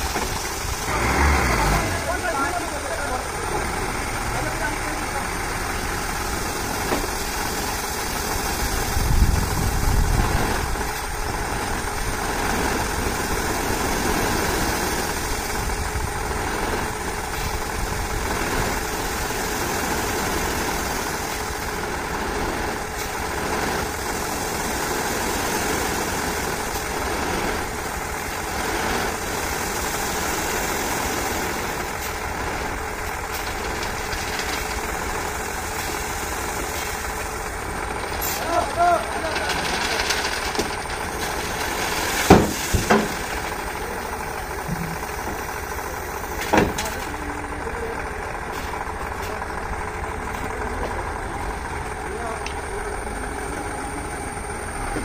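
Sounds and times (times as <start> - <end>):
gravel sliding out of truck bed: 0.0 - 47.2
diesel truck engine running: 0.0 - 55.0.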